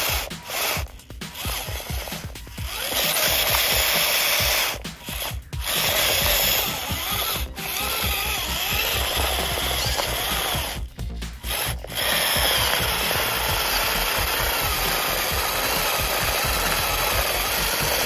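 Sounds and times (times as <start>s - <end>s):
electric motor and gearbox whirring: 0.0s - 18.0s.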